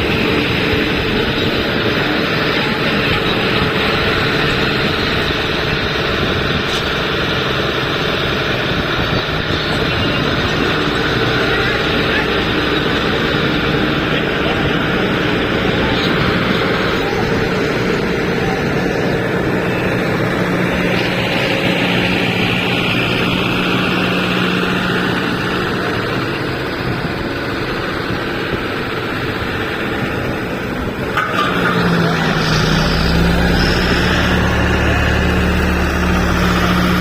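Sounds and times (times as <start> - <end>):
deep engine rumble: 0.0 - 37.0
heavy vehicle engines running: 0.0 - 37.0.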